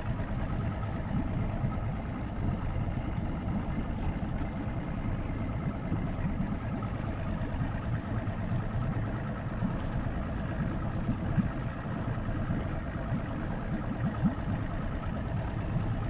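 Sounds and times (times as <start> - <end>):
motorboat engine idling: 0.0 - 16.0.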